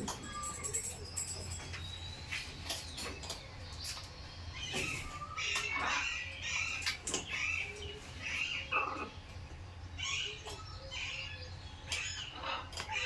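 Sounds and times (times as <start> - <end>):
parrots chattering and squeaking: 0.0 - 13.0.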